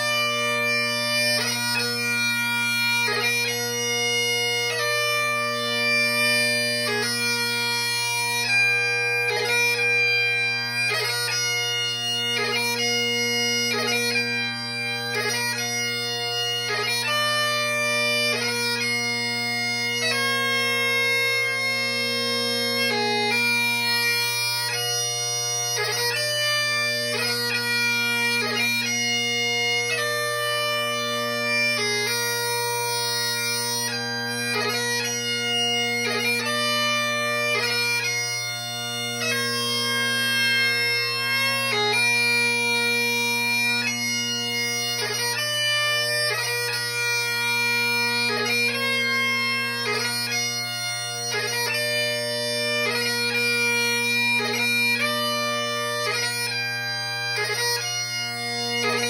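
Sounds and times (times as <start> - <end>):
bagpipe drones: 0.0 - 59.0
bagpipe melody: 0.0 - 59.0.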